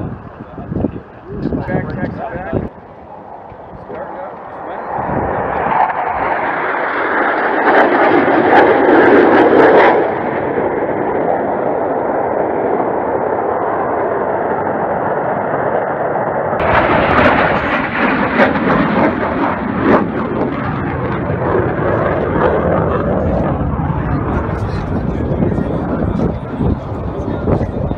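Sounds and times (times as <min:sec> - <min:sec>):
jet roar: 0:00.0 - 0:27.9.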